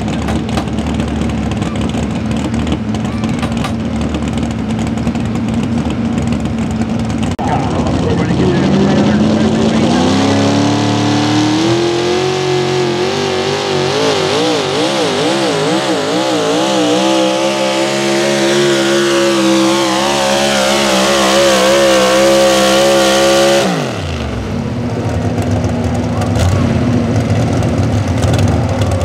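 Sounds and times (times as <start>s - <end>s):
vehicle engine at full throttle: 0.0s - 29.0s.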